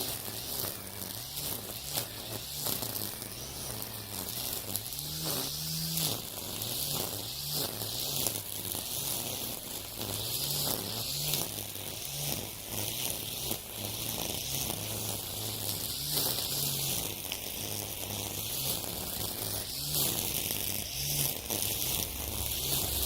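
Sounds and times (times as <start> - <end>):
string trimmer cutting weeds: 0.0 - 23.0.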